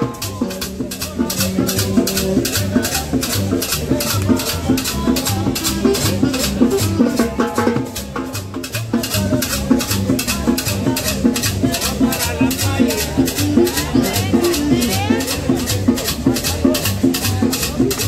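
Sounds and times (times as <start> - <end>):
drums: 0.0 - 18.0
pulsing bass line: 0.0 - 18.0.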